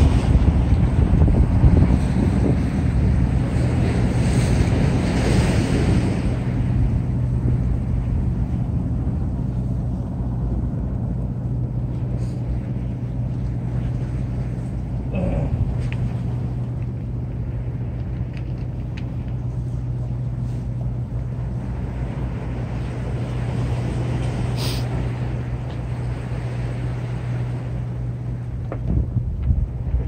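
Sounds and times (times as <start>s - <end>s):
motorboat engine drone: 0.0s - 30.0s
wind and sea rumble: 0.0s - 30.0s.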